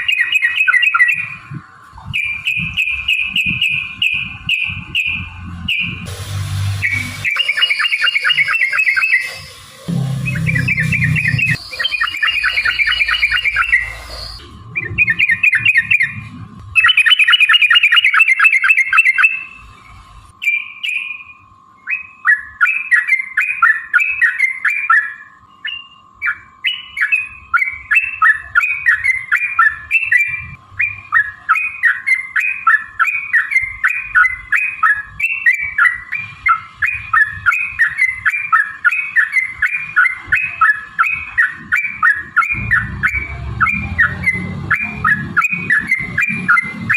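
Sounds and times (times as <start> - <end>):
bulbul singing: 0.0 - 46.9.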